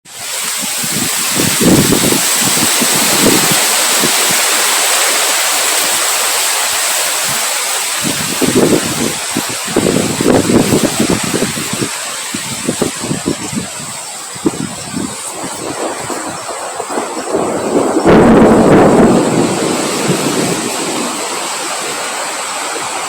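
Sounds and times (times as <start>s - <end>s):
heavy rain falling: 0.0s - 23.0s
wind rumbling on microphone: 0.1s - 23.0s.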